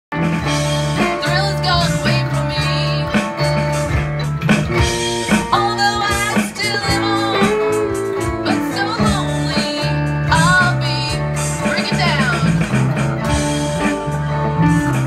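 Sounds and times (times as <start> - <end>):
band playing a song: 0.1 - 15.0
guitar: 0.1 - 15.0.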